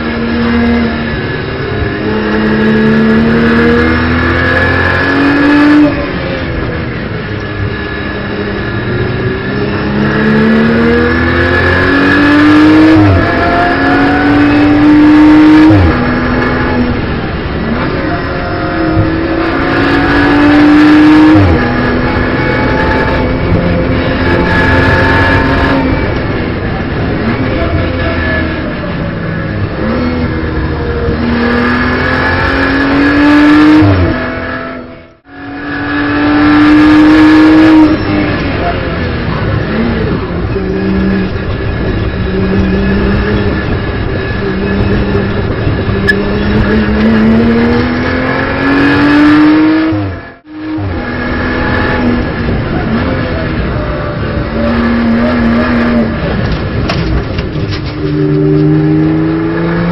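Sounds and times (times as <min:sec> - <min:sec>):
car engine accelerating through gears: 0:00.0 - 0:59.9.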